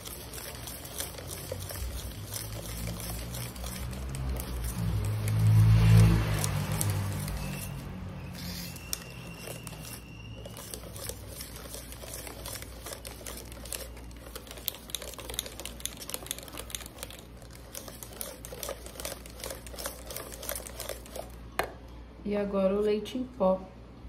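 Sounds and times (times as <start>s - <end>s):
utensil tapping mixing bowl: 0.0s - 7.9s, 8.6s - 21.8s.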